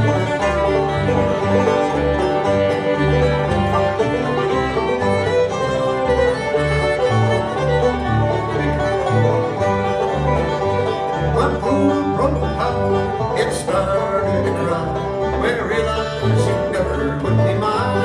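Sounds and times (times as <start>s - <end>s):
banjo: 0.0s - 18.0s
bass line: 0.0s - 18.0s
fiddle: 0.0s - 18.0s
guitar: 0.0s - 18.0s.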